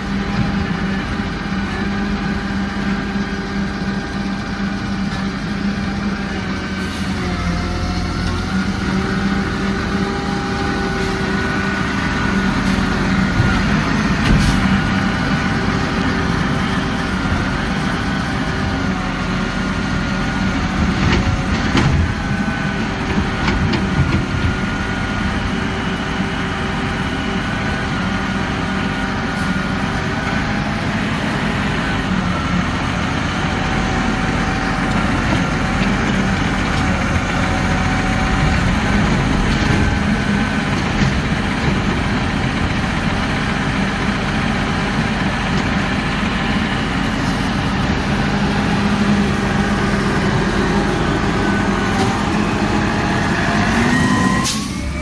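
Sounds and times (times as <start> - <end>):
garbage truck engine running: 0.0 - 55.0.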